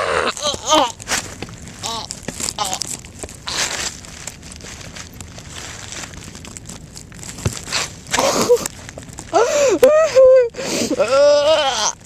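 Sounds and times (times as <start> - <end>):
rustling with small crackles: 0.0 - 12.0.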